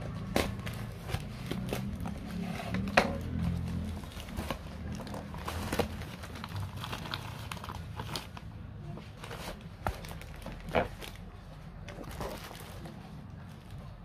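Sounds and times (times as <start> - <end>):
paper crinkling: 0.0 - 14.0.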